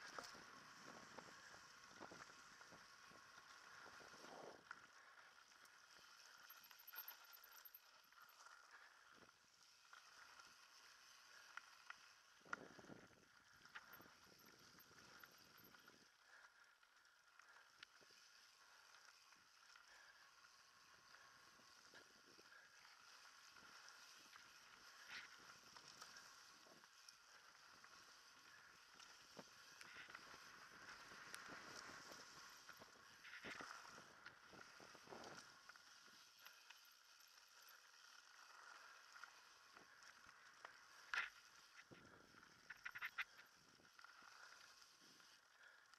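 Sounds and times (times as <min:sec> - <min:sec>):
bike riding on dirt trail: 0:00.0 - 0:45.9.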